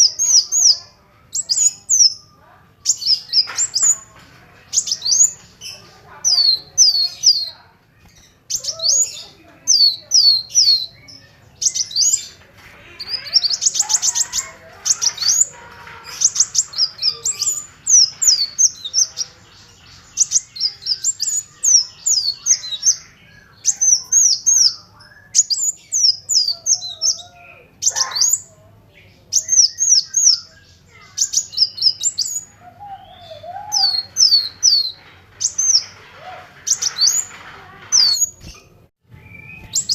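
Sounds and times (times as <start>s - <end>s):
bird trill: 0.0s - 28.5s, 29.2s - 39.9s
bird chirping: 0.0s - 39.9s.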